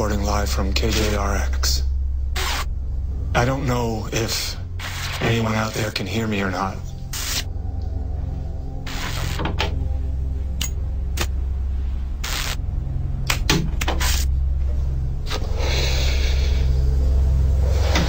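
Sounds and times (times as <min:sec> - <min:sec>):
low soundtrack drone: 0:00.0 - 0:18.0.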